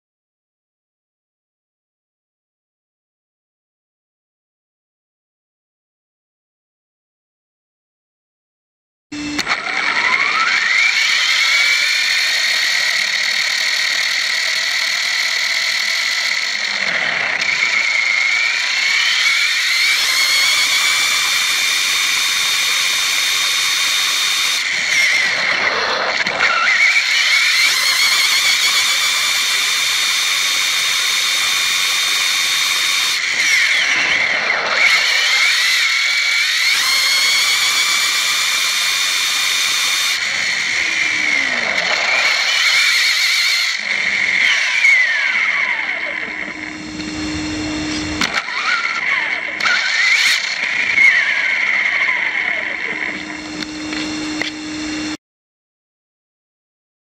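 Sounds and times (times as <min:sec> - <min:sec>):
toy buggy motor whine: 0:09.2 - 0:55.2.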